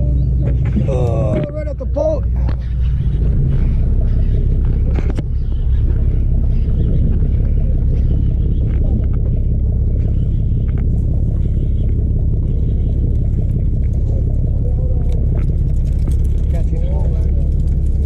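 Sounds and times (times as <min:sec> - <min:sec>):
boat engines rumbling: 0:00.0 - 0:18.0.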